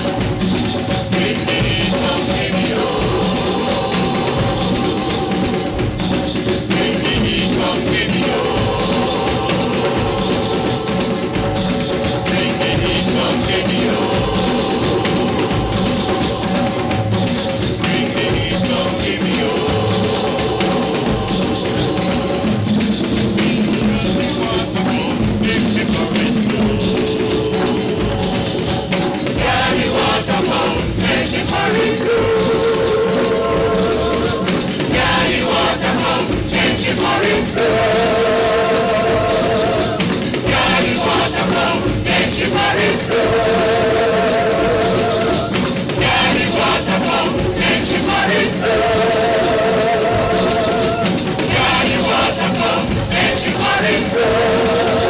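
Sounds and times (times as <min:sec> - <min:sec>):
choir singing long wavering notes: 0:00.0 - 0:55.0
steady drumming: 0:00.0 - 0:55.0.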